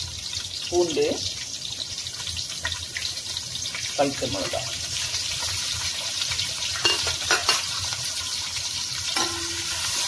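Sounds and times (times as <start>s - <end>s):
onion frying in hot oil: 0.0s - 10.0s.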